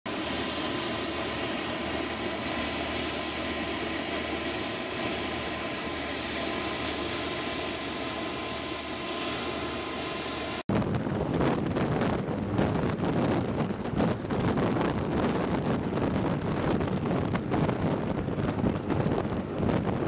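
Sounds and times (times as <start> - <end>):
helicopter turbine engines: 0.1 - 20.0.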